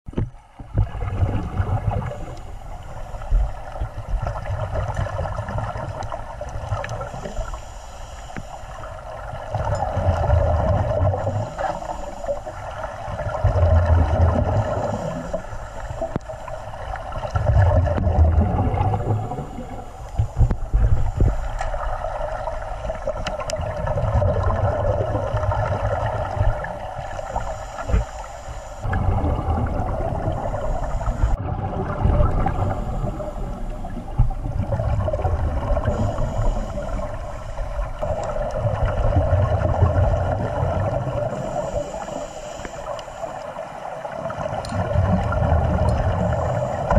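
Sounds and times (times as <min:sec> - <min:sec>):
low rumbling water surges: 0:00.4 - 0:46.9
underwater water hiss: 0:00.5 - 0:46.9.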